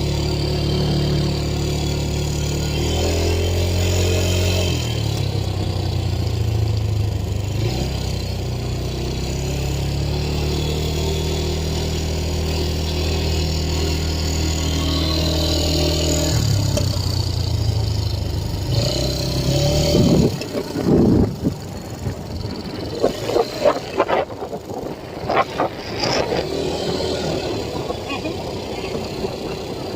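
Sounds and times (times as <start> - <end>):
atv engine running: 0.0 - 29.9.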